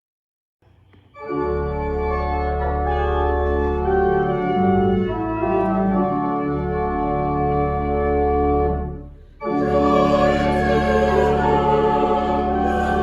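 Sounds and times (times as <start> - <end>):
organ playing held chords: 1.2 - 13.0.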